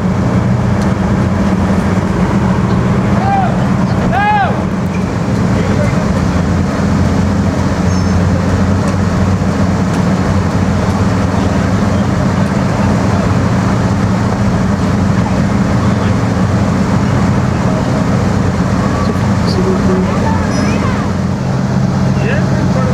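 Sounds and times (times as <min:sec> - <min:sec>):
boat engines rumbling: 0:00.0 - 0:22.9.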